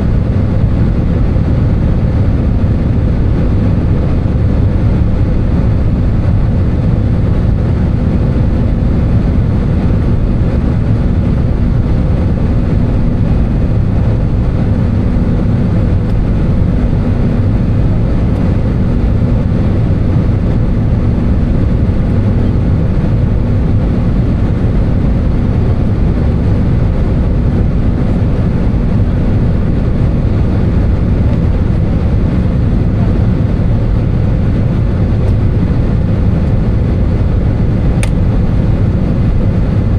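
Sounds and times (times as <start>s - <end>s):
aircraft engine drone: 0.0s - 39.9s
low hum tones: 0.0s - 39.9s
rush of airflow: 0.0s - 39.9s.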